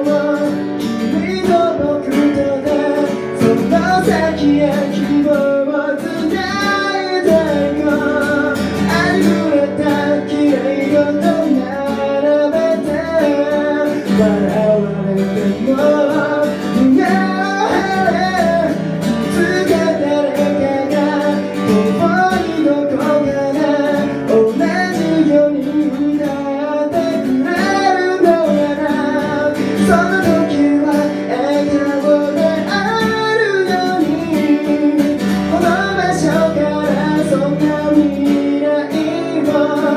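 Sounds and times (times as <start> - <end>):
person singing: 0.0 - 39.9
strummed acoustic guitar: 0.0 - 39.9.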